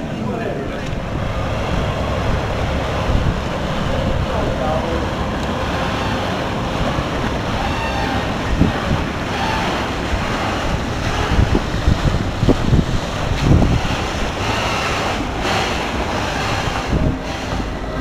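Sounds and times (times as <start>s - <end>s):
choppy water washing: 0.0s - 18.0s
wind buffeting microphone: 0.0s - 18.0s.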